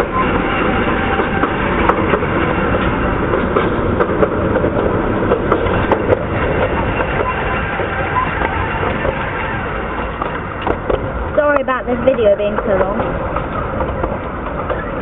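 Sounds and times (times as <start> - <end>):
miniature train wheels rumbling: 0.0 - 15.0.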